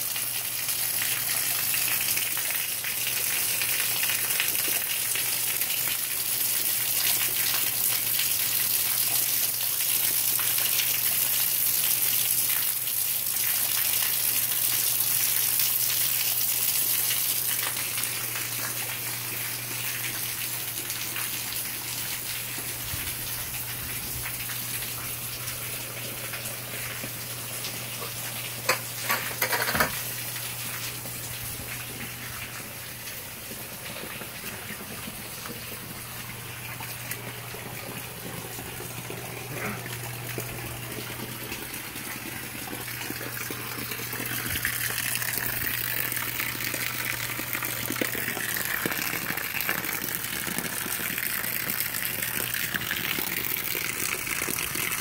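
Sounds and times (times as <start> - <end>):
water pouring off roof: 0.0 - 55.0.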